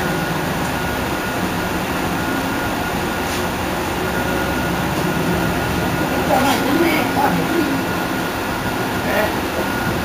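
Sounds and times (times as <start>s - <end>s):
bus engine idling: 0.0s - 10.0s
constant high whine: 0.0s - 10.0s.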